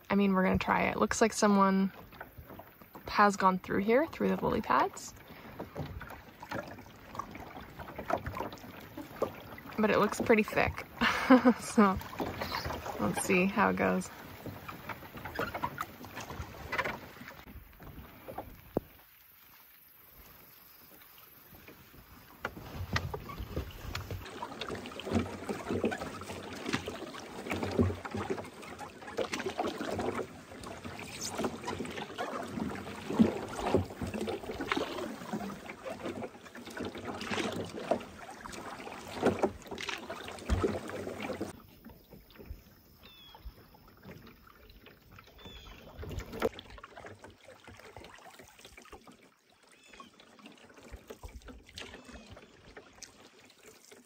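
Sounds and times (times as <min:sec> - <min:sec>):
paddle strokes: 0:00.0 - 0:54.0
vegetation dragging along hull: 0:00.0 - 0:54.0.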